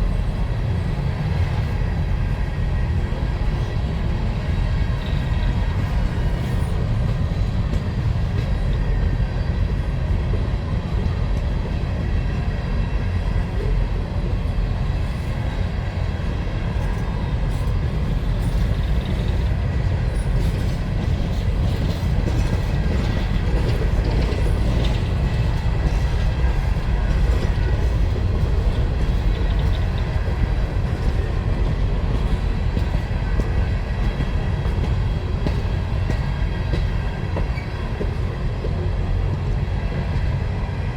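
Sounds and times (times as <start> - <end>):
freight train wheels rumbling: 0.0 - 40.9
wheels clickety-clack on rail: 0.0 - 40.9.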